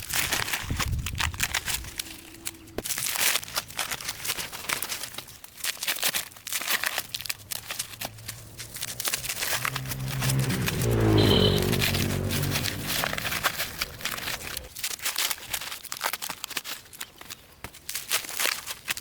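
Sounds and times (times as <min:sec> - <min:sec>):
plants rustling and snapping: 0:00.0 - 0:10.2, 0:13.8 - 0:19.0.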